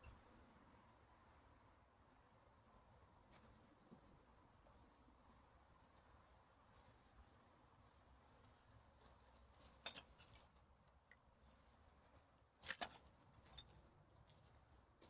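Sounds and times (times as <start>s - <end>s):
crackling rustle: 2.1s - 15.0s.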